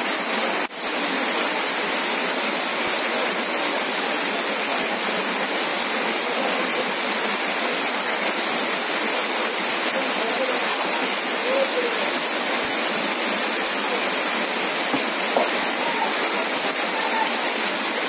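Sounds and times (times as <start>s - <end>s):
heavy rain splashing into water: 0.0s - 18.0s.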